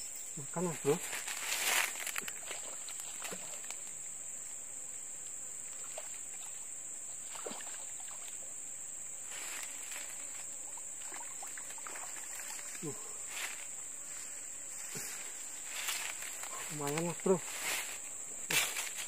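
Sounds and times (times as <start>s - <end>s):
high-pitched insect buzz: 0.0s - 19.0s.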